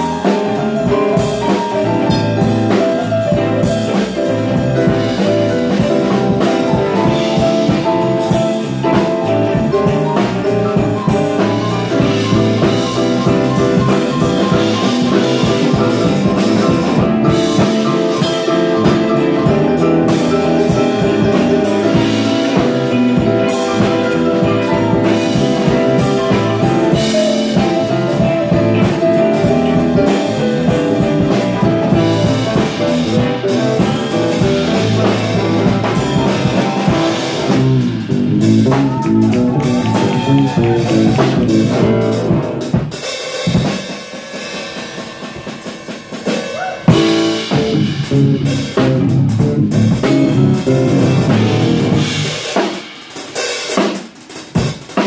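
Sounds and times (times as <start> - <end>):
drums keeping a beat: 0.0 - 55.0
live band playing: 0.0 - 55.0.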